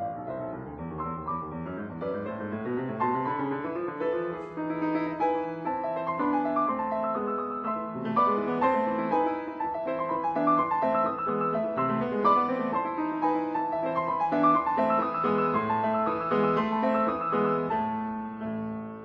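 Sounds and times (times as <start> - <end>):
classical piano playing: 0.0 - 19.0.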